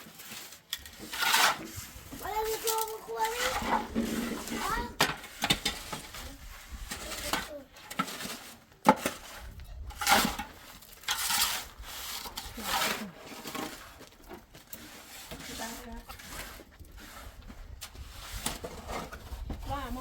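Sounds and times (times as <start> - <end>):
scraping and rubbing strokes: 0.0 - 20.0.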